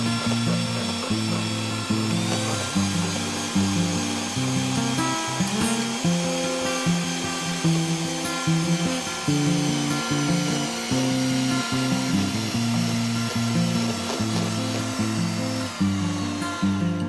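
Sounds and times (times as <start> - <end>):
electric hand mixer whirring: 0.0 - 17.0.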